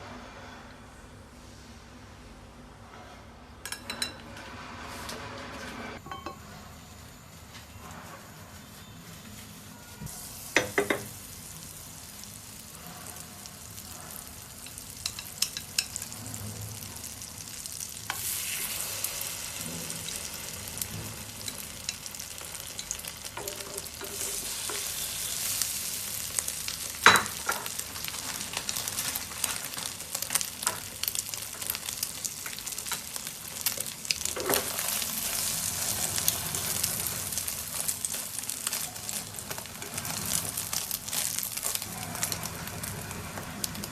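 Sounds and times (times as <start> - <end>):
food sizzling in a pan: 6.0 - 43.9.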